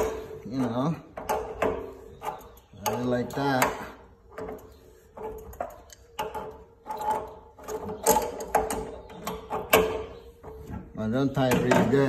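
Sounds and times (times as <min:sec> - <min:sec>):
wrench clicking and scraping on metal: 0:00.0 - 0:10.7.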